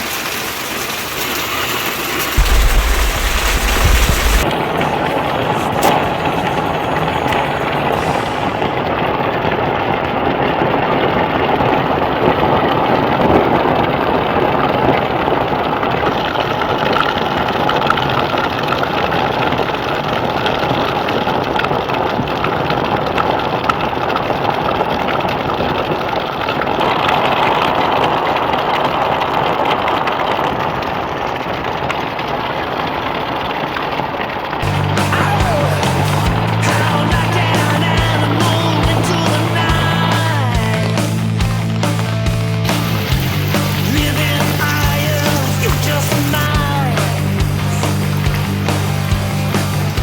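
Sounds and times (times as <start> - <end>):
heavy rain: 0.0 - 50.0.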